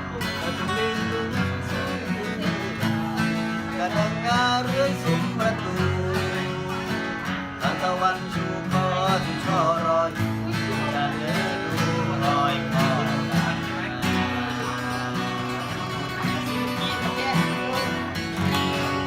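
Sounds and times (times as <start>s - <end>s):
instrumental guitar and bass music: 0.0s - 19.0s.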